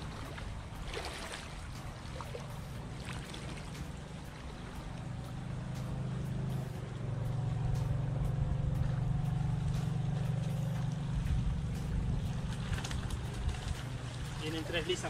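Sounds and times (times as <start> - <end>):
motorboat engine droning: 0.0 - 15.0
water dripping and splashing: 0.0 - 15.0.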